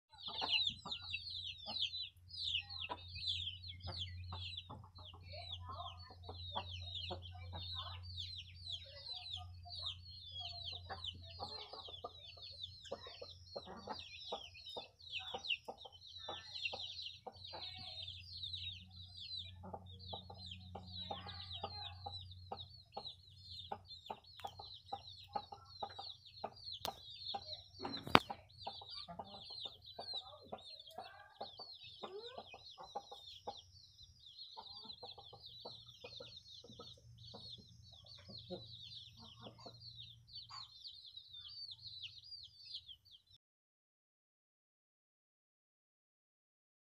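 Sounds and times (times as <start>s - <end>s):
chicks peeping: 0.1s - 43.4s.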